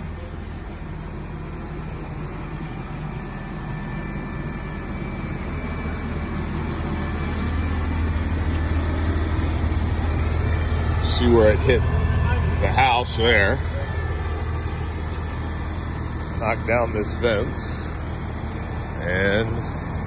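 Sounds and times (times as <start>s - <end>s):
crane engine humming: 0.0s - 20.0s.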